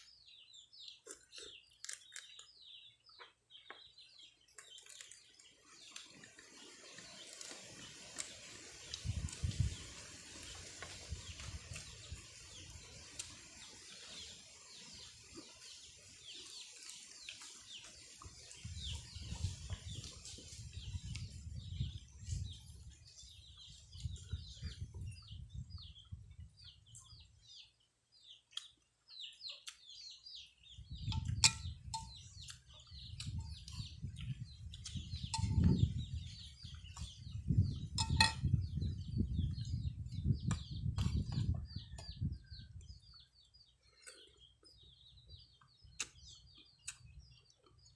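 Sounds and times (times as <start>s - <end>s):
eating and handling noises: 0.0s - 24.9s, 28.3s - 42.2s, 43.0s - 47.9s
birds chirping: 0.0s - 47.9s.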